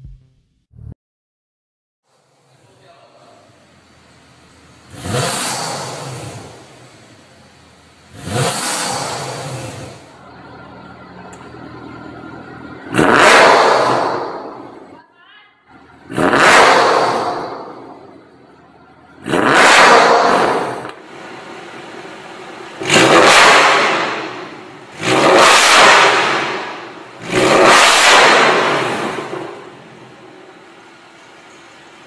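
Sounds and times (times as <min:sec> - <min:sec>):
car engine idling: 0:02.1 - 0:15.0, 0:15.6 - 0:32.0
car engine revving: 0:02.2 - 0:15.0, 0:15.7 - 0:32.0.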